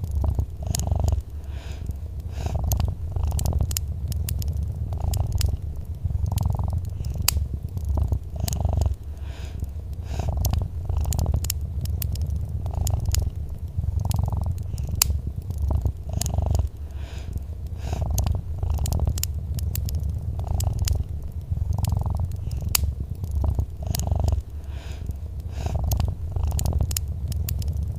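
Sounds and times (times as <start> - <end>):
cat purring: 0.0 - 27.9
wood fire crackling: 0.0 - 27.9.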